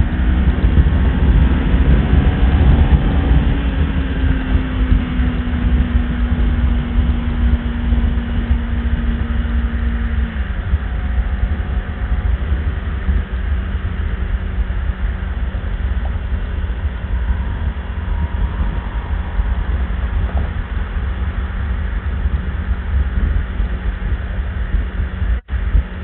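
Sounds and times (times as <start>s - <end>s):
steady drone: 0.0s - 26.0s
wind and motorcycle engine rumble: 0.0s - 26.0s.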